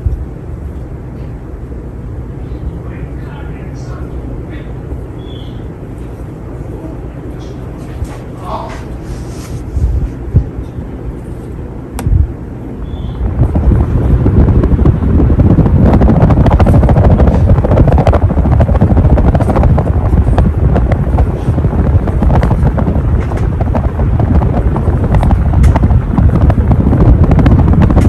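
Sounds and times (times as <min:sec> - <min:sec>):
ceiling fan wind noise: 0:00.0 - 0:28.0.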